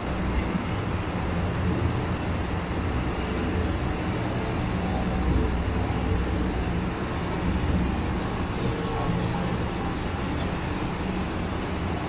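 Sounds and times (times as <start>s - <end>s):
city background rumble: 0.0s - 12.0s.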